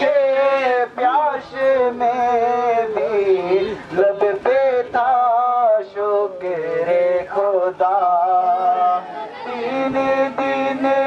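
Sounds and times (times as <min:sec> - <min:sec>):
man singing a devotional chant: 0:00.0 - 0:11.0.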